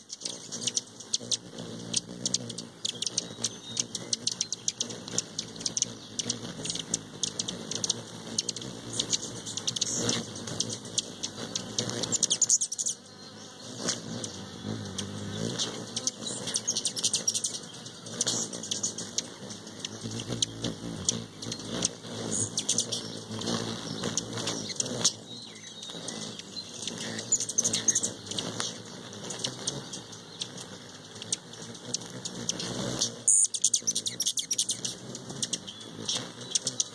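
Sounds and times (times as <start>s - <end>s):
hummingbird wings buzzing: 0.0s - 36.9s.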